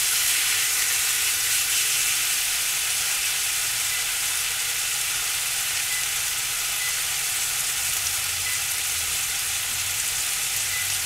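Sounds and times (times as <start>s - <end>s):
steaks sizzling in skillet: 0.0s - 11.0s.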